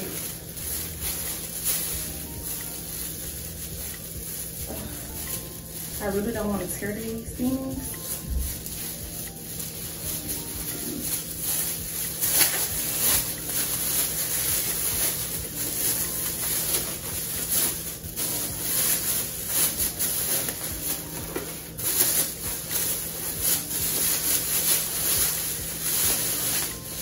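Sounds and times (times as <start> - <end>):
plastic wrapping crinkling: 0.0 - 27.0.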